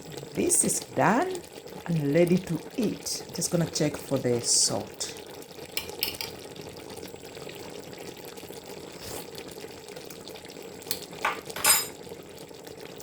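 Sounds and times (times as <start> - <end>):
stew bubbling in a saucepan: 0.0 - 13.0.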